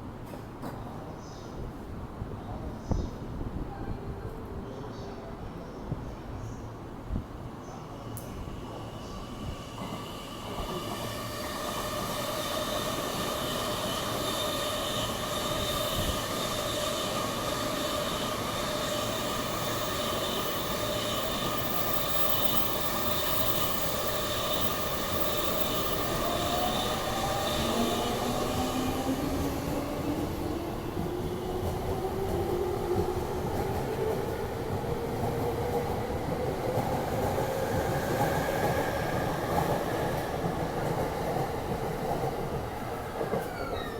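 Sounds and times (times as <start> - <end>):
train wheel and running noise: 8.1 - 43.9.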